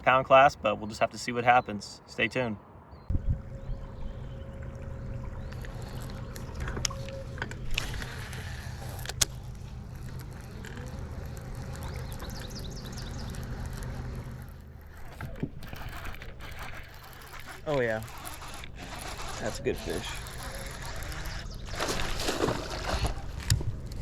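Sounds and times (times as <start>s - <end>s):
boat motor running: 3.1s - 24.0s.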